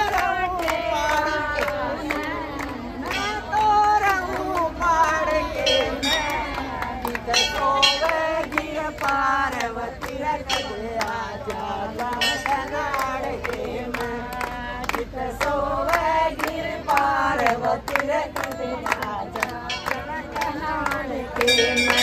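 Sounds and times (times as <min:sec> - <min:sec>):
hand-clapping: 0:00.0 - 0:22.0
women singing together: 0:00.0 - 0:22.0.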